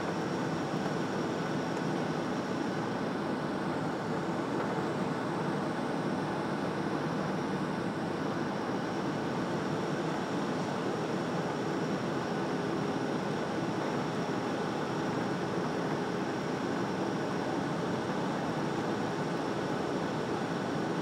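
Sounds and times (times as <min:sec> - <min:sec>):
airliner engine hum: 0:00.0 - 0:21.0
faint steady whine: 0:00.0 - 0:21.0.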